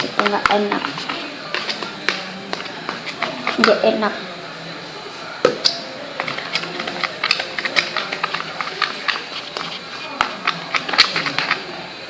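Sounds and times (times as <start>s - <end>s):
utensil stirring slime: 0.0s - 4.3s, 5.6s - 11.9s.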